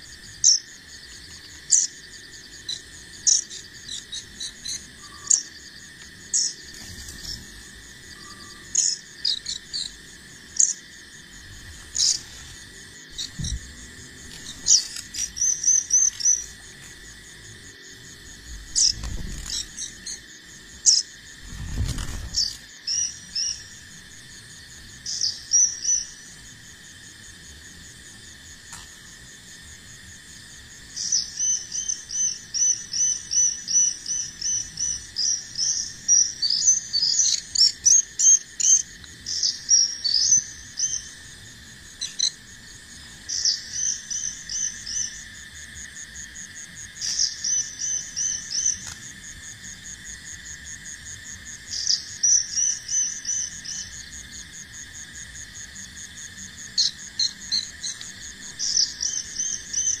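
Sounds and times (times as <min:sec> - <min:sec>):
insects droning: 0:00.0 - 1:00.0.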